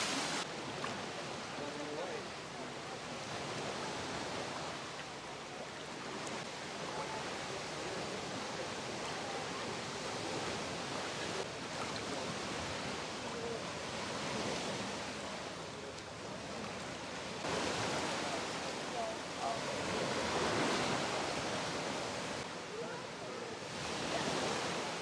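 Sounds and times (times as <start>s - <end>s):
surf breaking on a beach: 0.0s - 25.0s.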